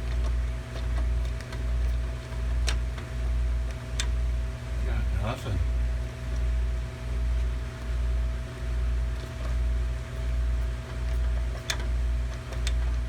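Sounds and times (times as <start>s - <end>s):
refrigeration machine hum: 0.0s - 13.0s.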